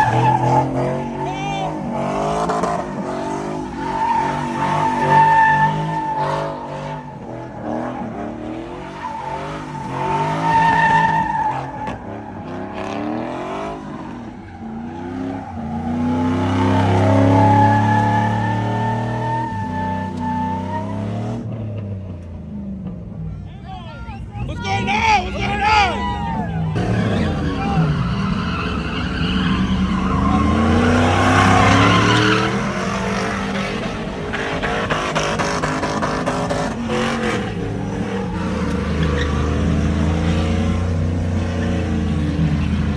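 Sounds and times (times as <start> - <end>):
tyres squealing: 0.0 - 21.0, 24.2 - 40.6
truck engine revving: 0.0 - 23.3, 24.4 - 42.9.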